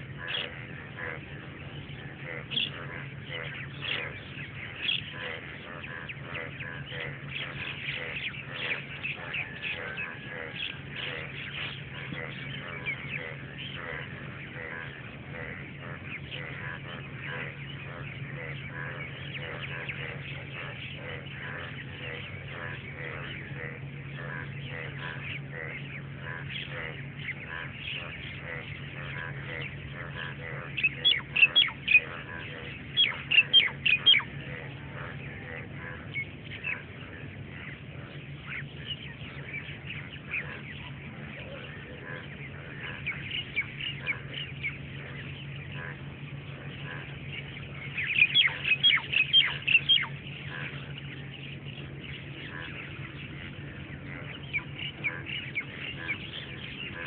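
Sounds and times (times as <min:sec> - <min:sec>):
birds calling rapidly: 0:00.0 - 0:57.0
steady low hum: 0:00.0 - 0:57.0.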